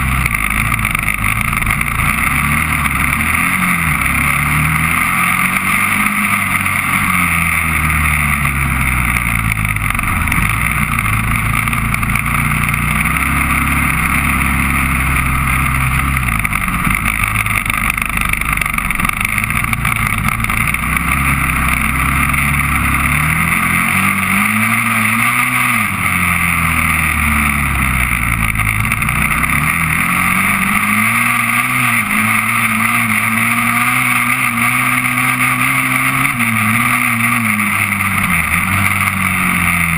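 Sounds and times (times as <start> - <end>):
quad engine revving: 0.0 - 39.9
steady rushing noise: 0.0 - 39.9.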